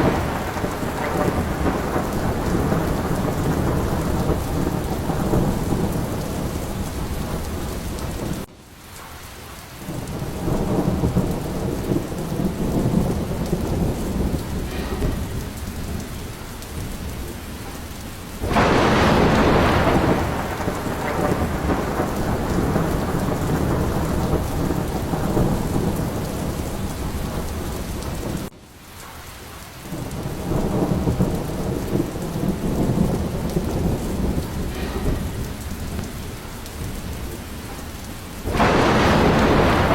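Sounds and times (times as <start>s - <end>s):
low rolling thunder: 0.0s - 8.5s, 9.1s - 28.5s, 29.8s - 39.9s
sharp thunderclap: 0.0s - 8.5s, 9.8s - 28.5s, 29.9s - 39.9s
heavy rain: 0.0s - 39.9s.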